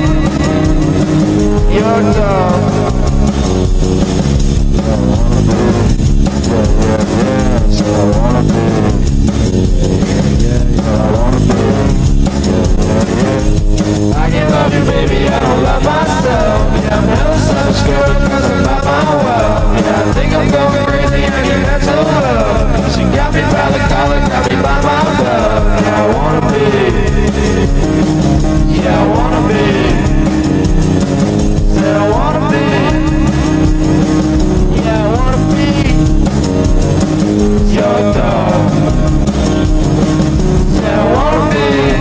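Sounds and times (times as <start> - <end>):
rock song with guitar and singing: 0.0 - 42.0.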